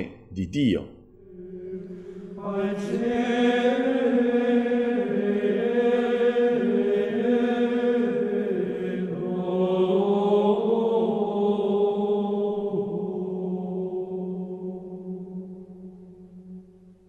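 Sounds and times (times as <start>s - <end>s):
chanted singing: 0.0s - 16.4s.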